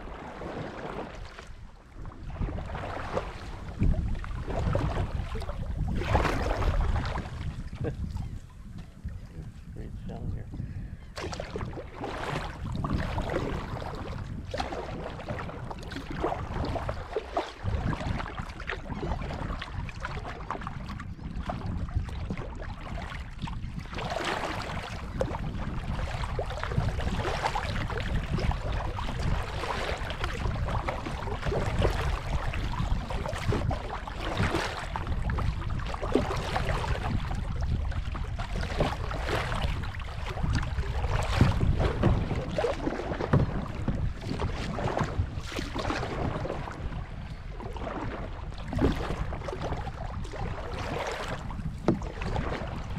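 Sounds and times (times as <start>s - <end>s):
kayak paddle splashing in water: 0.0s - 8.2s, 11.1s - 52.9s
wind rumbling on microphone: 0.0s - 52.9s.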